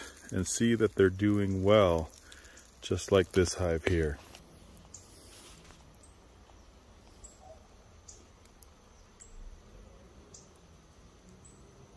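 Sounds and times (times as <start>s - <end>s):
high-pitched insect trill: 0.0s - 11.9s.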